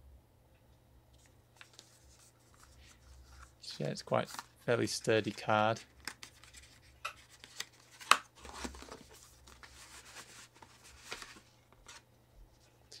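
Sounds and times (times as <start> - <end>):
card and paper rustling: 1.2 - 12.0.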